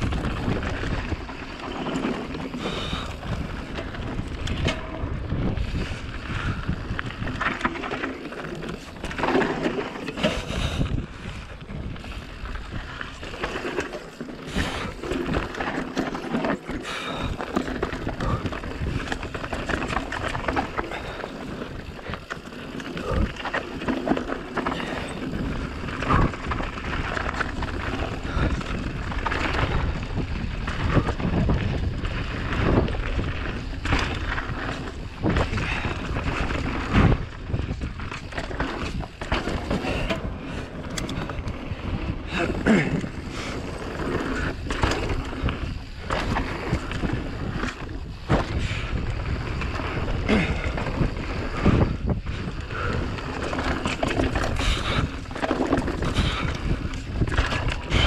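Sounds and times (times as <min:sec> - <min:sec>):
bike knocking and rattling: 0:00.0 - 0:58.0
wind and tyre noise: 0:00.0 - 0:58.0.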